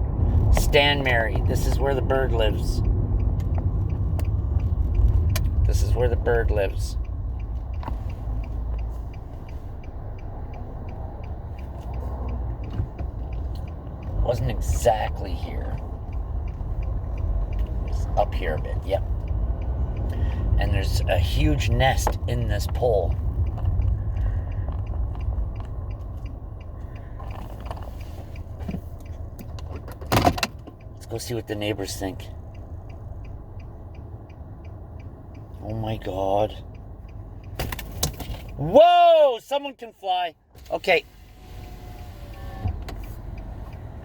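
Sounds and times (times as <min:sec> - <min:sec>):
car indicator ticking: 0:00.0 - 0:44.0
low rumble of car moving: 0:00.0 - 0:44.0.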